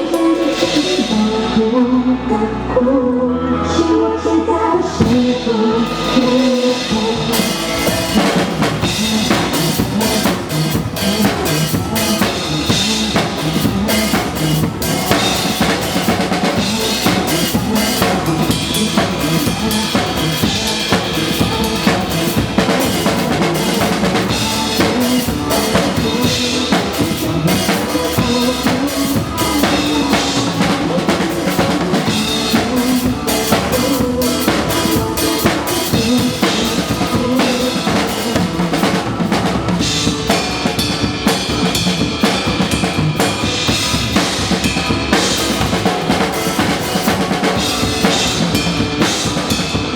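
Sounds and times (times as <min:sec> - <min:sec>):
drum kit playing groove: 0:00.0 - 0:01.5, 0:05.0 - 0:49.9
pop song backing music: 0:00.0 - 0:49.9.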